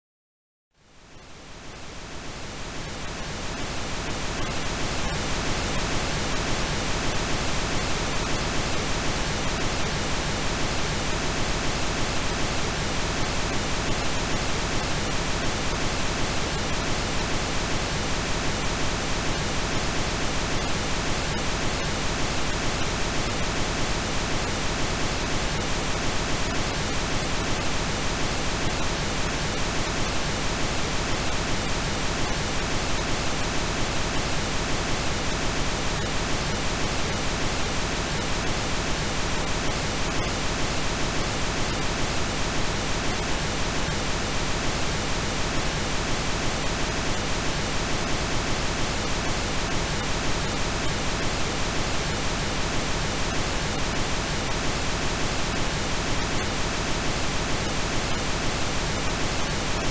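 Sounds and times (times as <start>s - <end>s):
synthesized pink noise: 0.8s - 59.9s.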